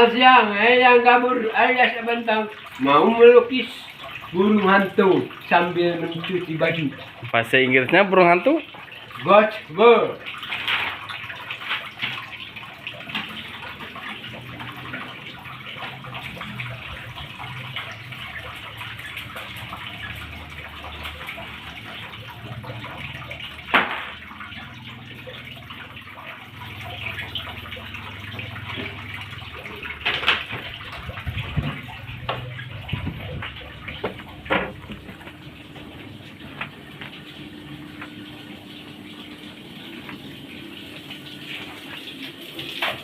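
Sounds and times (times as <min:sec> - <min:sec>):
water sloshing: 0:02.2 - 0:43.0.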